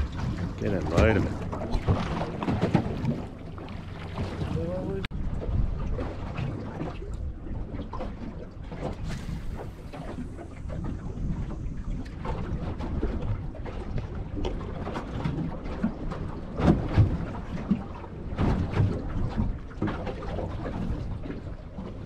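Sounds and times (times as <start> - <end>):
water lapping at hull: 0.0 - 22.0
wind buffeting microphone: 0.0 - 22.0.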